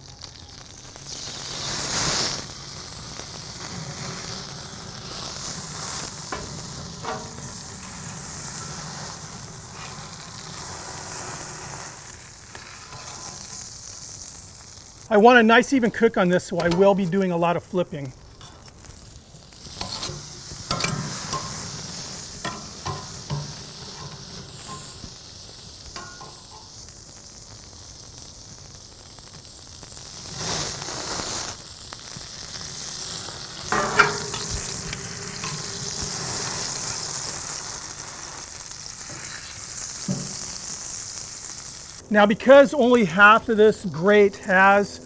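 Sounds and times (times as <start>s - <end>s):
meat sizzling on a grill: 0.0s - 45.0s.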